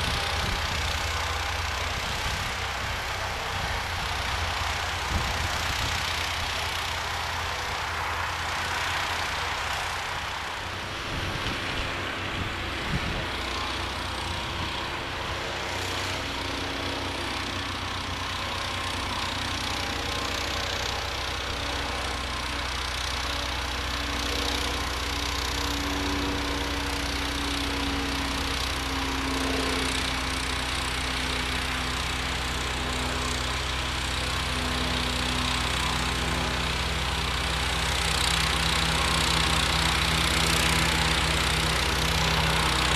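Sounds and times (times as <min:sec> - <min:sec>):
snowblower engine running: 0:00.0 - 0:42.9.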